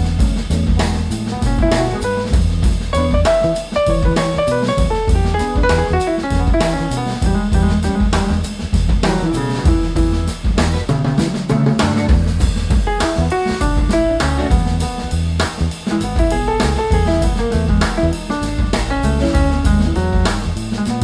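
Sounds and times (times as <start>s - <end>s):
upbeat jazzy band music: 0.0s - 21.0s.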